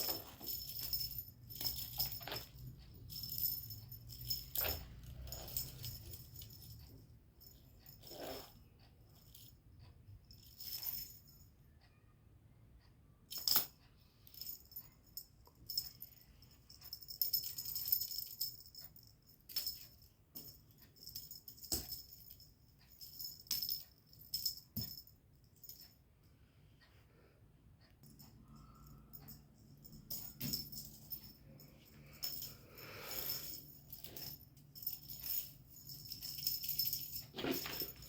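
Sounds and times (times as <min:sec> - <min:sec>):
metallic jingling and rattling: 0:00.0 - 0:09.6, 0:13.3 - 0:25.9, 0:28.1 - 0:38.0.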